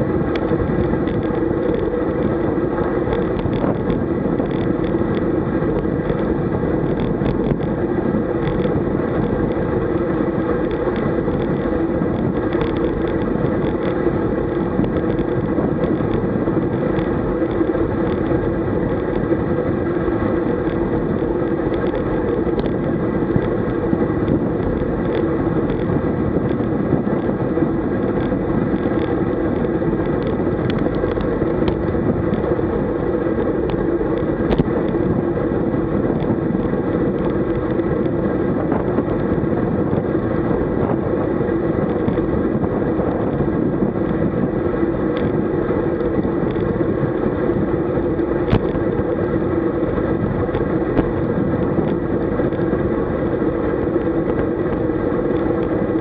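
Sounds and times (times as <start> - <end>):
bicycle tyre noise: 0.0 - 56.0
wind rush: 0.0 - 56.0.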